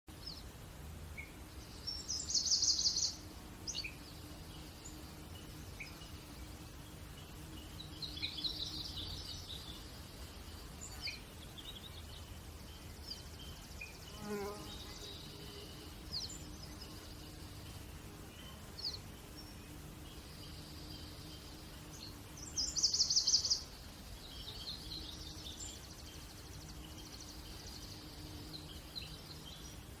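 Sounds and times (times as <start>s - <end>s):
faint steady hum: 0.1s - 30.0s
birds chirping and trilling: 1.1s - 30.0s.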